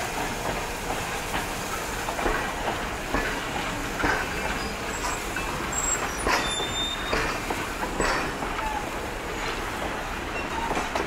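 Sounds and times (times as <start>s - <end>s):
train coaches rolling past: 0.0s - 11.0s
wheels clicking over rail joints: 0.1s - 11.0s.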